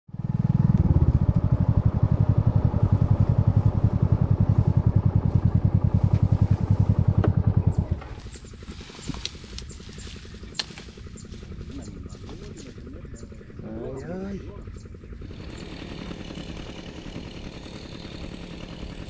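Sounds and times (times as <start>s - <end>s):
motorcycle engine running: 0.1s - 19.0s.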